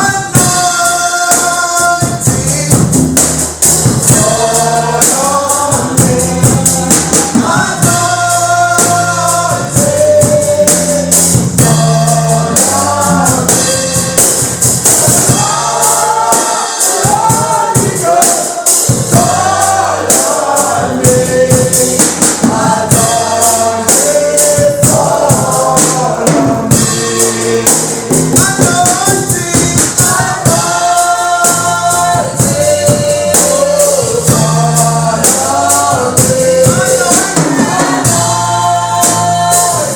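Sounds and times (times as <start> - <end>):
drums and bass: 0.0 - 39.9
tambourine shaken: 0.0 - 39.9
voices singing gospel: 0.0 - 39.9.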